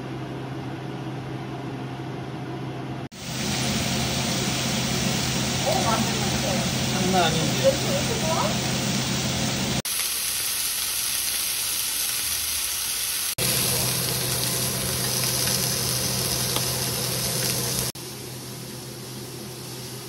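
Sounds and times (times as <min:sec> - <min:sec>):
meat sizzling in a skillet: 0:03.1 - 0:20.0.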